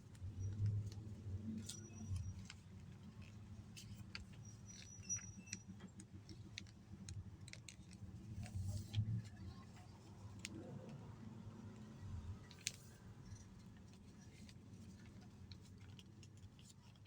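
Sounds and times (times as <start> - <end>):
paper crackling and folding: 0.1 - 5.0, 5.9 - 17.0.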